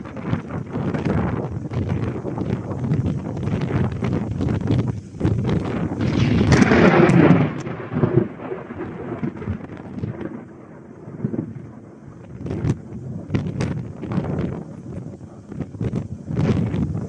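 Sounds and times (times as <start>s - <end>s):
sharp crackles: 0.0s - 17.0s
thunder rumbling: 0.0s - 17.0s
wind on microphone: 0.0s - 17.0s.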